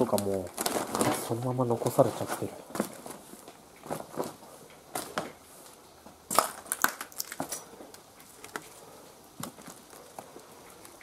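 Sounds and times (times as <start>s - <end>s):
footsteps crunching over debris: 0.0s - 11.0s.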